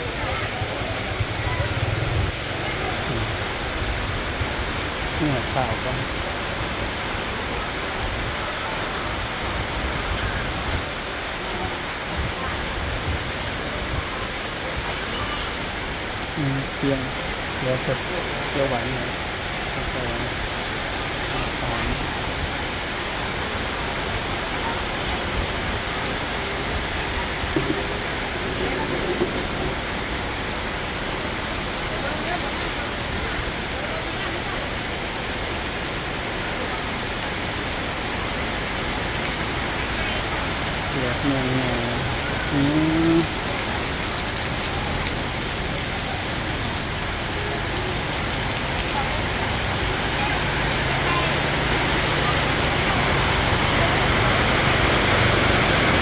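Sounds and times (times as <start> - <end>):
faint voices: 0.0 - 56.0
rain-like hiss: 0.0 - 56.0.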